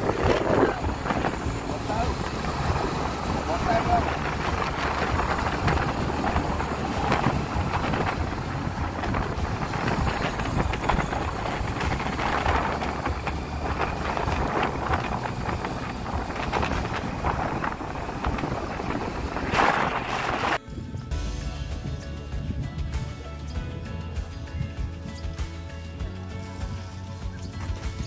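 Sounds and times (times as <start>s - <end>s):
low vehicle rumble: 0.0s - 28.0s
wind buffeting microphone: 0.0s - 28.0s.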